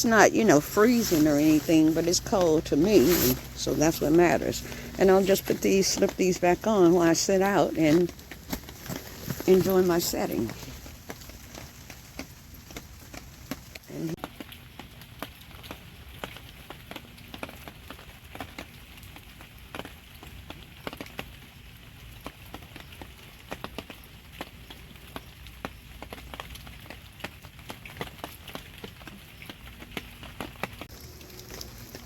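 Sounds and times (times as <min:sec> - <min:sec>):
light rain falling: 0:00.0 - 0:32.0.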